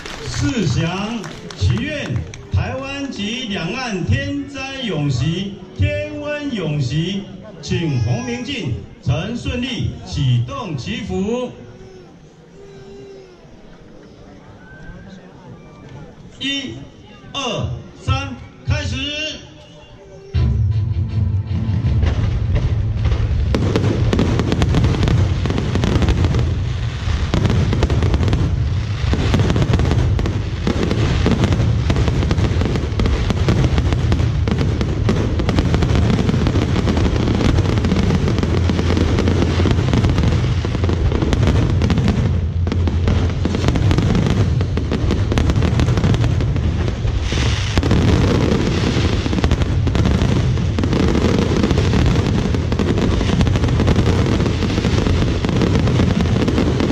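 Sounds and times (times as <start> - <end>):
fireworks bangs and crackles: 0.0 - 11.0, 21.5 - 56.9.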